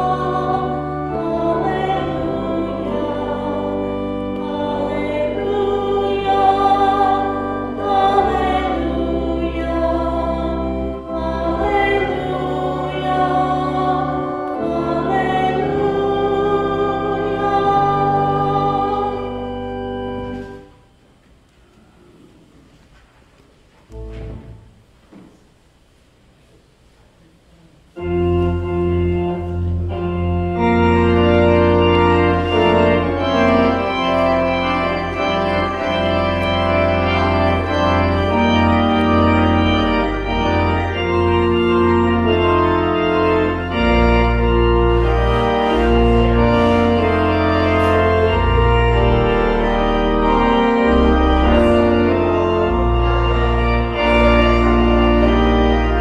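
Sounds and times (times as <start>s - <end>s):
organ music: 0.0s - 21.1s, 23.9s - 25.0s, 27.9s - 56.0s.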